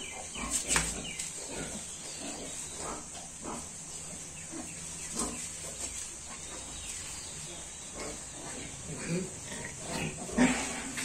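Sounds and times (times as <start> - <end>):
piglets and sow grunting: 0.0 - 11.0.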